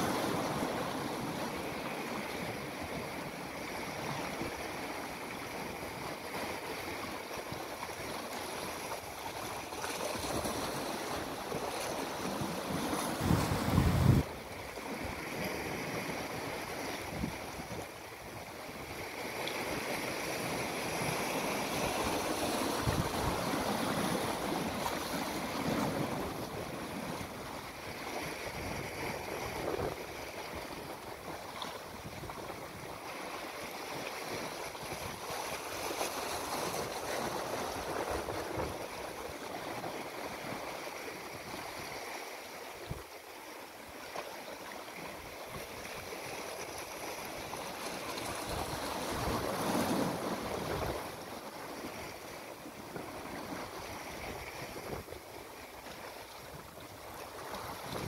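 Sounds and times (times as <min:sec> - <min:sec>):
sea waves on rocks: 0:00.0 - 0:58.0.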